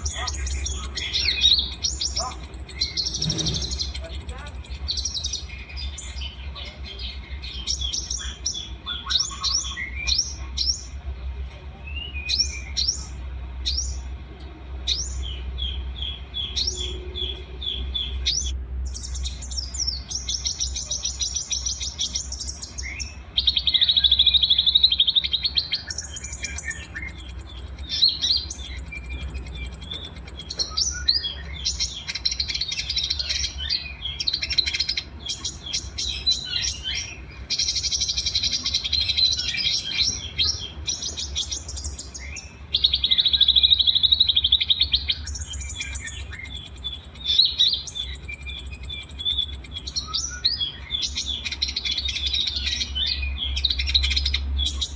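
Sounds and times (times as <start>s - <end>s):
songbirds singing: 0.0s - 54.9s
steady low hum: 0.0s - 54.9s.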